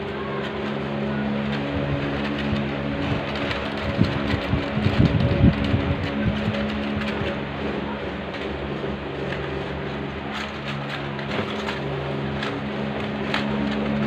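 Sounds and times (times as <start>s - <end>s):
paper crinkling and rustling: 0.0s - 14.0s
steady low hum: 0.0s - 14.0s.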